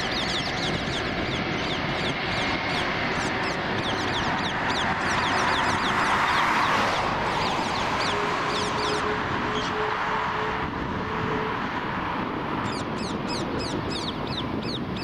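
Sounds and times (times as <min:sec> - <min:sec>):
birds chirping: 0:00.0 - 0:09.8, 0:12.6 - 0:15.0
jet engines rushing: 0:00.0 - 0:15.0.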